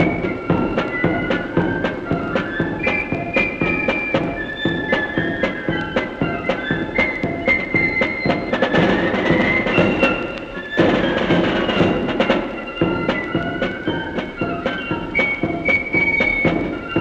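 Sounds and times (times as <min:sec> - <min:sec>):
flutes playing melody: 0:00.0 - 0:17.0
side drum strokes: 0:00.0 - 0:17.0.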